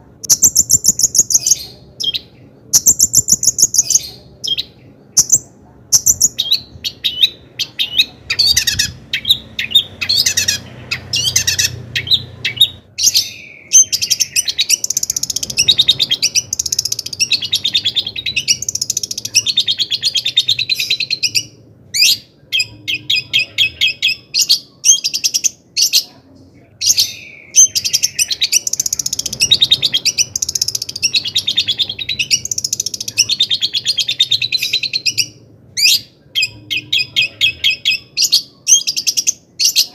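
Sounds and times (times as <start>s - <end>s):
bird chattering song: 0.2s - 26.2s, 26.8s - 39.9s.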